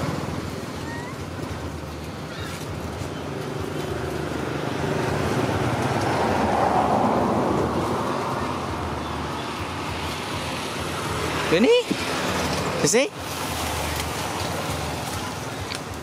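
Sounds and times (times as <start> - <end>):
vehicle rumble passing: 0.0 - 16.0.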